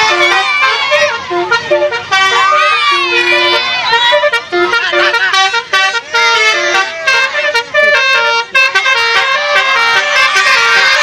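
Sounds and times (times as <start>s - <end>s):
multi-tone musical bus horn: 0.0s - 11.0s.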